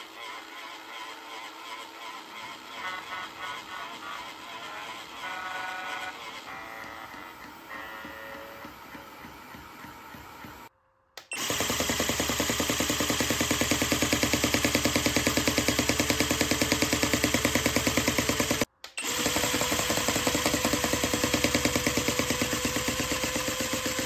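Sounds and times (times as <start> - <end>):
toy motor mechanical clatter: 0.0 - 9.4, 11.3 - 24.0.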